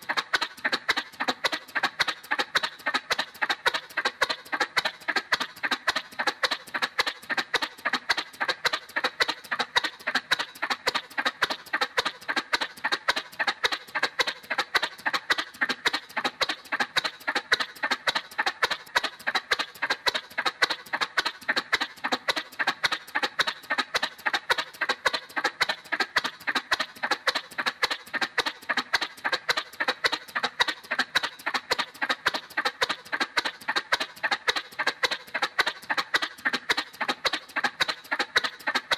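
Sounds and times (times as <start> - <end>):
cartoon motorcycle putt-putt: 0.0 - 38.9.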